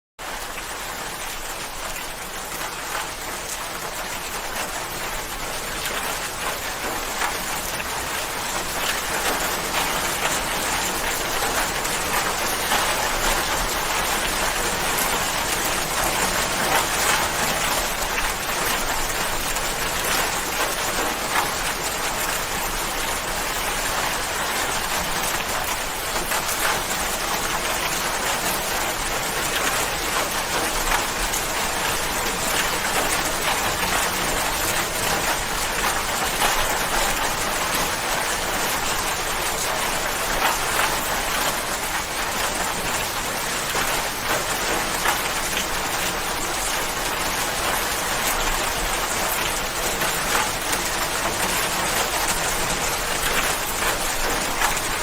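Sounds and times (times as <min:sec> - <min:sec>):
rain pattering: 0:00.2 - 0:55.0.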